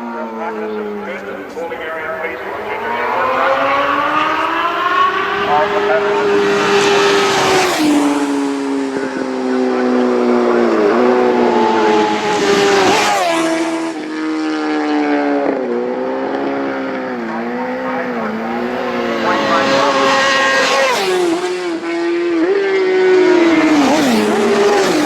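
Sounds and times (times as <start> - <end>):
racing motorcycles passing: 0.0 - 25.0.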